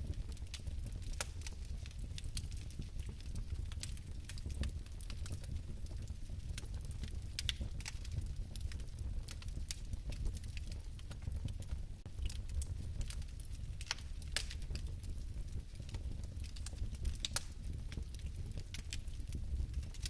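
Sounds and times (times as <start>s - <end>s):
fire crackling and popping: 0.0s - 20.0s
low rumble of flame: 0.0s - 20.0s.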